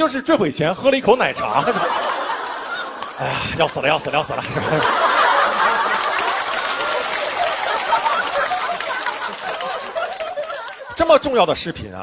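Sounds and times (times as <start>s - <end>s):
audience laughing: 1.3s - 11.0s.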